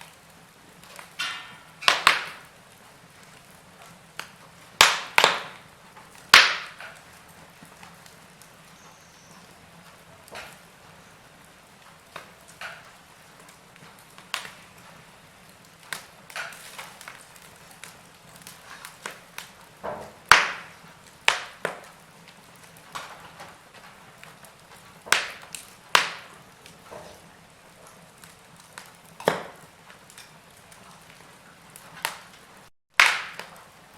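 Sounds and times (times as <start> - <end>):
wood logs crackling: 0.0 - 33.9.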